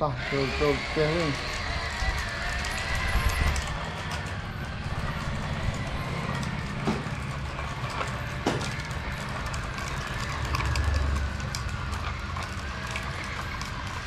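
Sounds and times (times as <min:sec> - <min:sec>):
plastic toy trucks rattling on concrete: 0:00.0 - 0:14.0.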